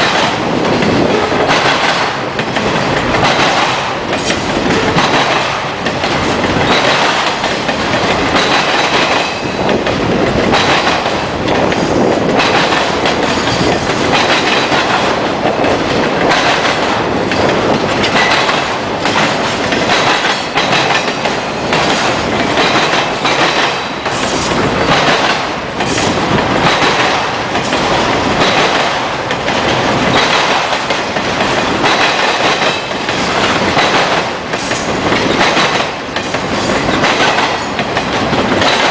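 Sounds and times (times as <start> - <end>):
train wheels clickety-clack: 0.0 - 38.9.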